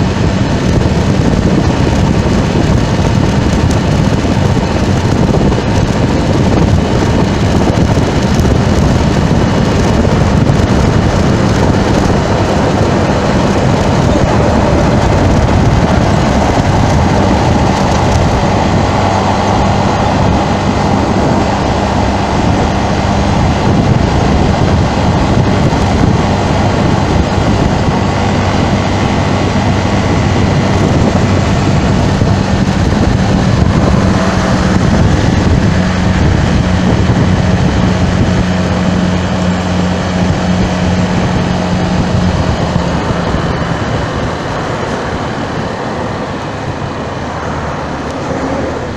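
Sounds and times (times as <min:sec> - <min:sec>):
passing vehicles: 0:00.0 - 0:48.9
rush of wind: 0:00.0 - 0:48.9.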